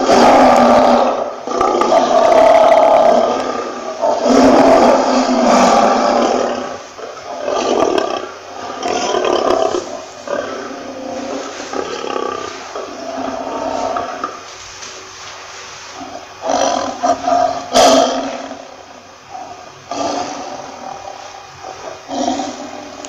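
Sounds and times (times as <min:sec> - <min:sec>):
lion roaring: 0:00.0 - 0:14.5, 0:16.0 - 0:23.0.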